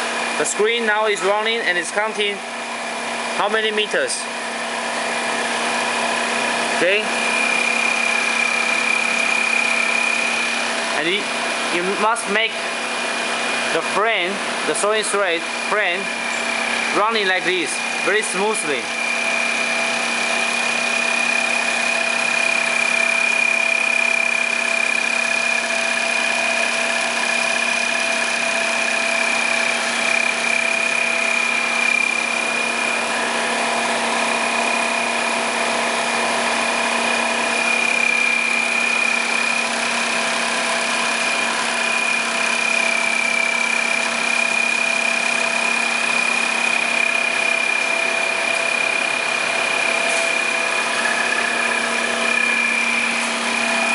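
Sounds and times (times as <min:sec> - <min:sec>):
high-pitched machine whine: 0:00.0 - 0:53.9
sewing machine running: 0:05.2 - 0:12.0, 0:14.8 - 0:53.9.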